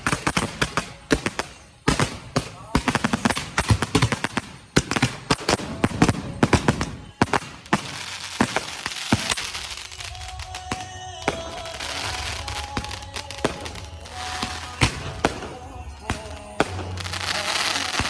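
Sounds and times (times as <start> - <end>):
fireworks cracks and bangs: 0.0 - 18.0
hissing crackle of fireworks: 0.0 - 18.0.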